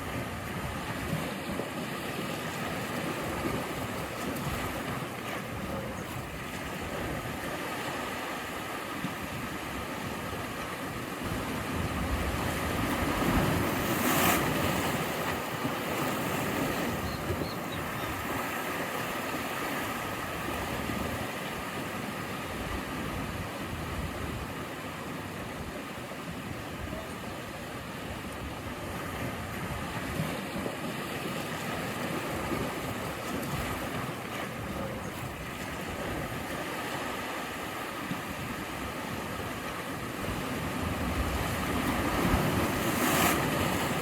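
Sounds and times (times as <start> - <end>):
sea waves washing onto shore: 0.0 - 44.0.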